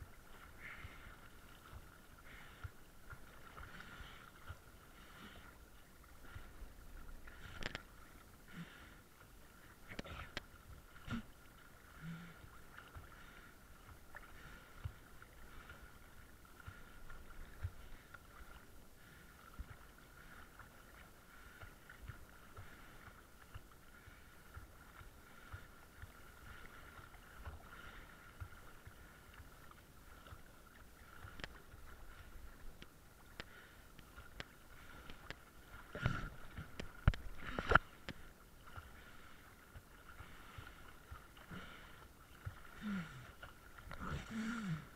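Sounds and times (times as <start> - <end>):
muffled sea water moving: 0.0 - 44.9.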